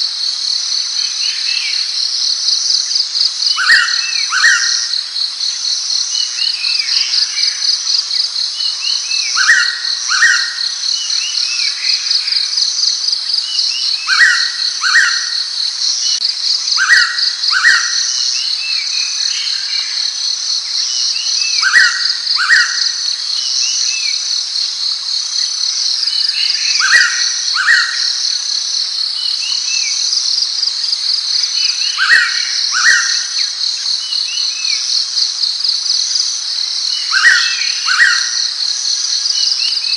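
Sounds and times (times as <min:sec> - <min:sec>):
pulsing insect trill: 0:00.0 - 0:39.9.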